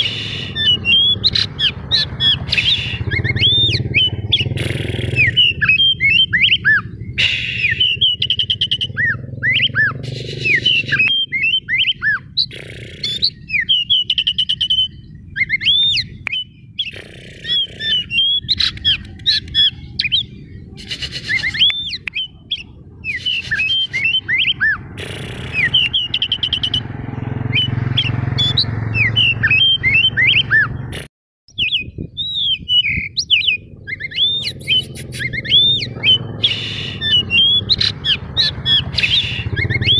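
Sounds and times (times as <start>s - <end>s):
bird singing whistles and trills: 0.0s - 24.8s, 25.4s - 30.9s, 31.5s - 39.9s.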